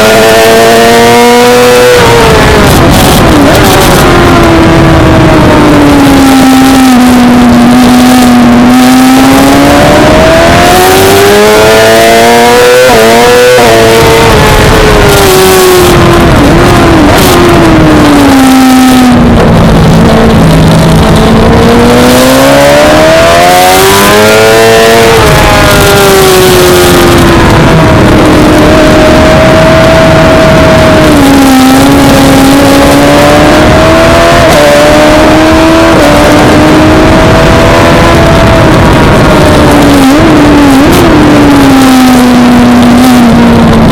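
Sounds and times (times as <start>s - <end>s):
race bike engine revving: 0.0s - 43.9s.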